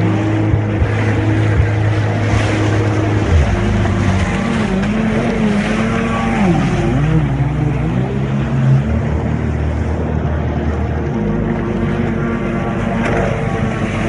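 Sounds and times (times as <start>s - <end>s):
jet ski engine running: 0.0s - 14.0s
rushing water: 0.0s - 14.0s
wind: 0.0s - 14.0s.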